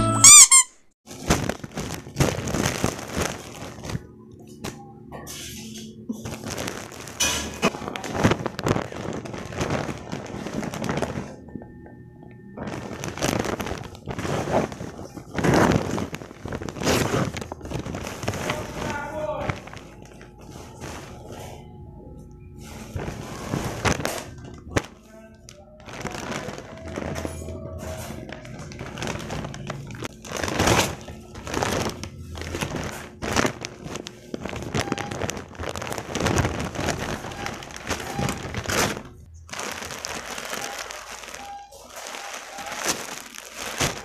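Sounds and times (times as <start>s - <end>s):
thin wrapping crinkling: 0.5s - 4.8s, 5.4s - 11.8s, 12.5s - 21.7s, 22.6s - 44.0s
wrapping paper tearing and crumpling: 1.1s - 4.8s, 6.2s - 11.4s, 12.6s - 21.7s, 22.6s - 44.0s.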